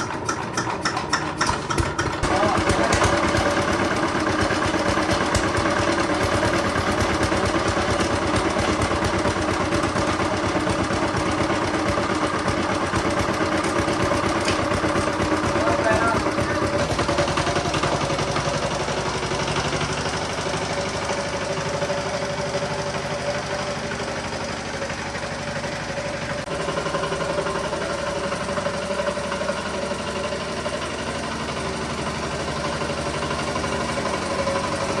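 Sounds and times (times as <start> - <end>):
small diesel engine idling: 0.0 - 35.0.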